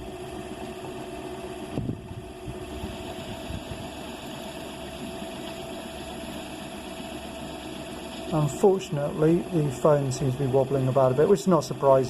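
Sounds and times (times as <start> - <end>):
lathe motor humming and whining: 0.0 - 12.0.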